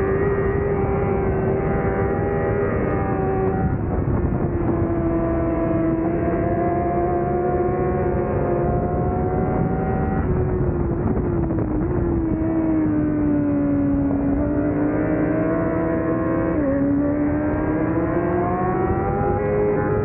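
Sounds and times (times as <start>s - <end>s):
motorcycle engine at race pace: 0.0s - 20.0s
wind rush: 0.0s - 20.0s.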